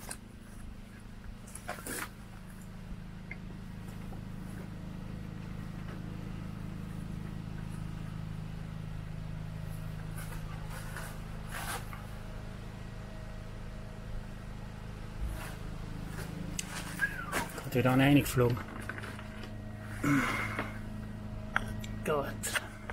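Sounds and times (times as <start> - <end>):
engine humming: 0.0 - 22.9.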